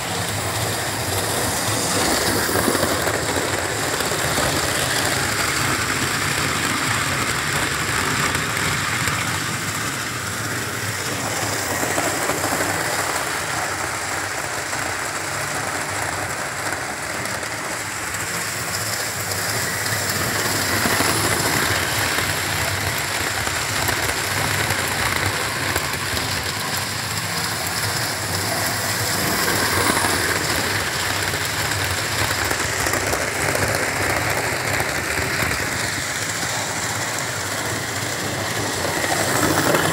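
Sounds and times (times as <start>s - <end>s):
model train whirring and rattling: 0.0s - 39.9s.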